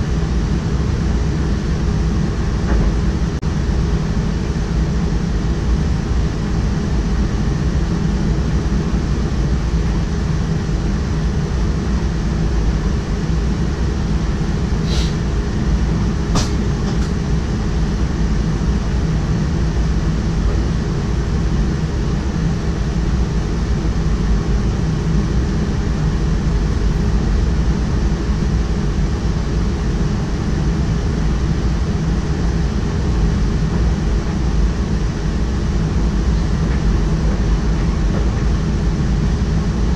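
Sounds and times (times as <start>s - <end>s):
train rumbling along track: 0.0s - 11.4s, 12.5s - 39.9s.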